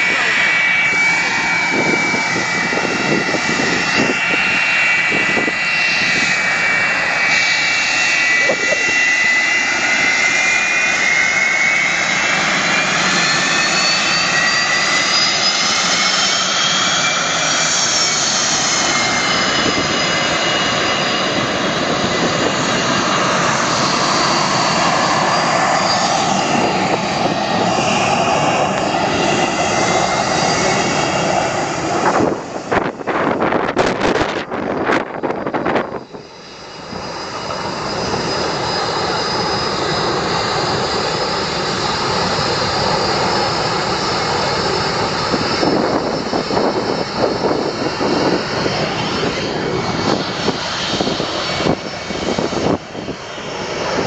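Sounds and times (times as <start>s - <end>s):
jet engines roaring with whine: 0.0s - 54.0s.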